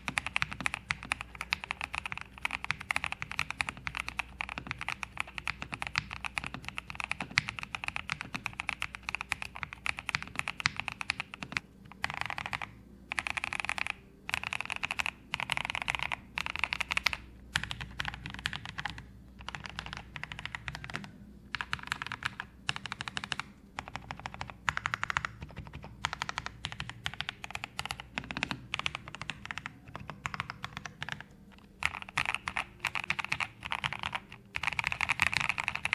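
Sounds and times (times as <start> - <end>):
mechanical keyboard typing: 0.0 - 35.9.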